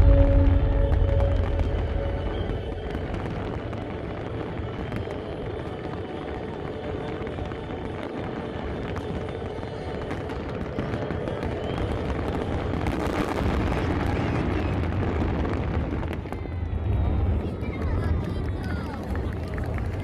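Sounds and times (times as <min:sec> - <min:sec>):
crowd: 0:00.0 - 0:20.0
fireworks crackling and booming: 0:00.0 - 0:20.0.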